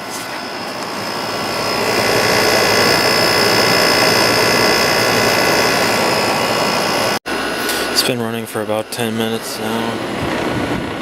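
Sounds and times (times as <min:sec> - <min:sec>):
air conditioner rushing airflow: 0:00.0 - 0:11.0
steady high whine: 0:00.0 - 0:11.0.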